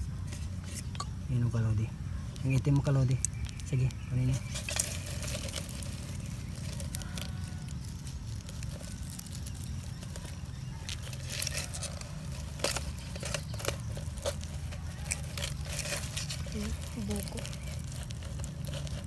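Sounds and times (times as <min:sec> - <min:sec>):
dry grass and twigs rustling: 0:00.0 - 0:19.0
plastic bottle crinkling: 0:02.4 - 0:19.0.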